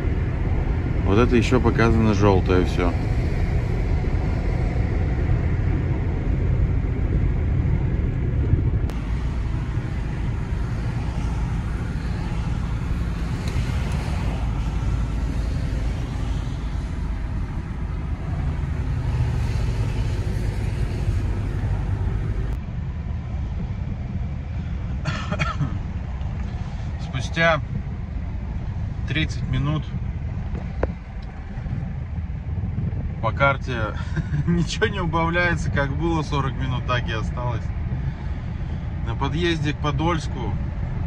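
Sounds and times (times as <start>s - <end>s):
van engine and road rumble: 0.0s - 41.0s.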